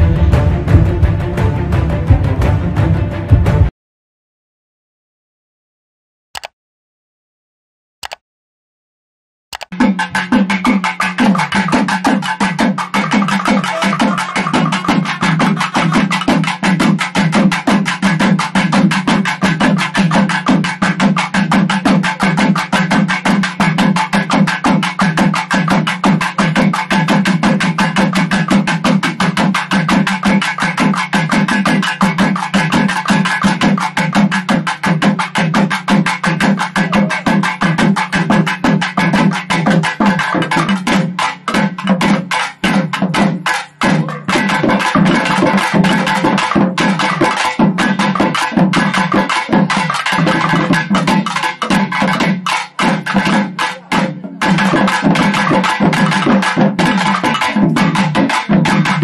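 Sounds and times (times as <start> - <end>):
rapid drum strokes: 0.0 - 3.7, 9.7 - 59.0.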